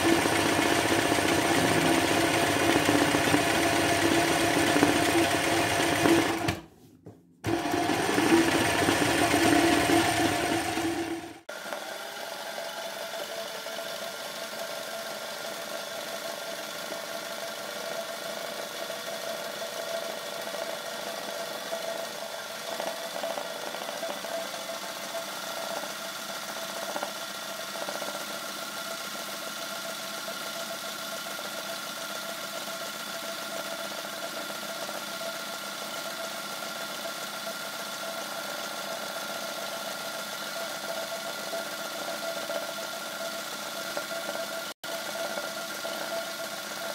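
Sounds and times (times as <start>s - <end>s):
sewing machine running: 0.0s - 6.6s, 7.5s - 46.9s.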